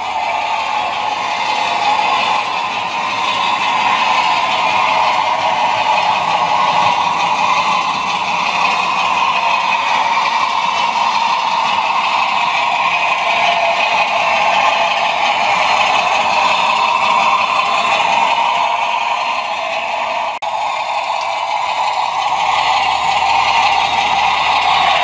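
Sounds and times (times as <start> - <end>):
model locomotive engine drone: 0.0 - 25.0
model wheels rattling on track: 0.0 - 25.0.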